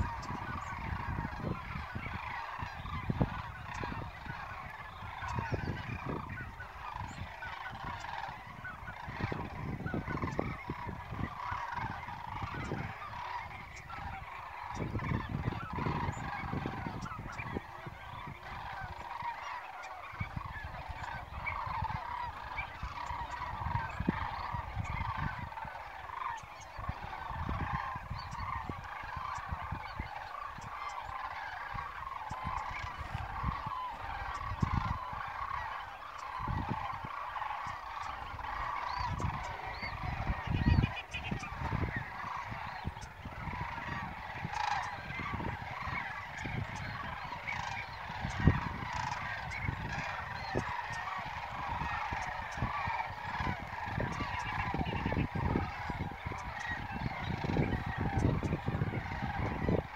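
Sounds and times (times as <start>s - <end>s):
flock of geese honking: 0.0s - 59.9s
wind rumbling on microphone: 0.0s - 59.9s.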